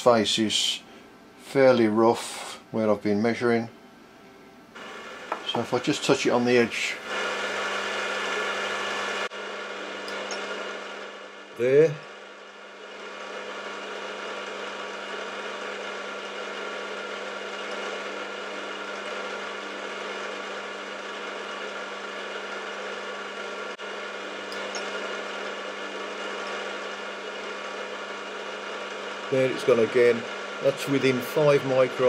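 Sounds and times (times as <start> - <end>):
milling machine motor hum: 4.8 - 32.0.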